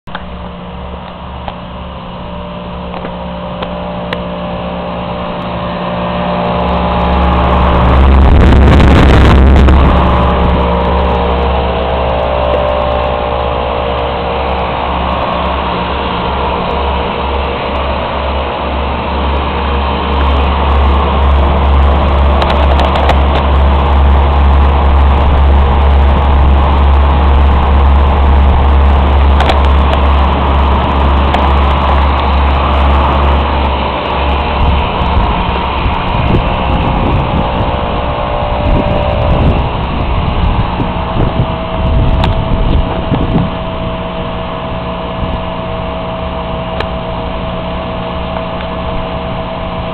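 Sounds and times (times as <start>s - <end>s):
air conditioner fan blowing: 0.0s - 49.9s
deep even hum: 0.0s - 49.9s.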